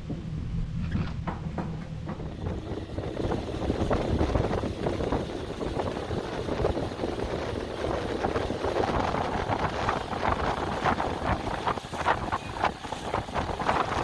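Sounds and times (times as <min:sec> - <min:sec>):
wind buffeting microphone: 0:02.0 - 0:14.0.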